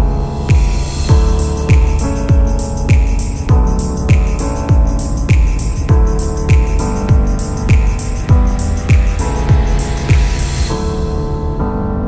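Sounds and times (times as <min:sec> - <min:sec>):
deep kick drum: 0:00.0 - 0:10.7
held chords: 0:00.0 - 0:11.6.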